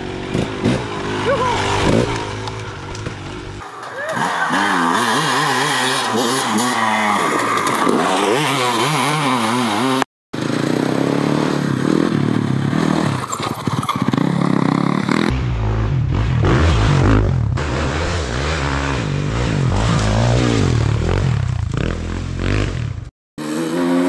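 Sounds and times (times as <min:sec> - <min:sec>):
dirt bike engine revving: 0:00.0 - 0:13.2, 0:14.0 - 0:24.0.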